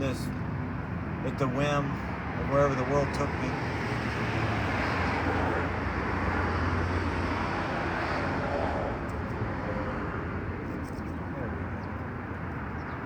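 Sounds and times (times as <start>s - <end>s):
passing vehicles rumbling: 0.0s - 13.0s.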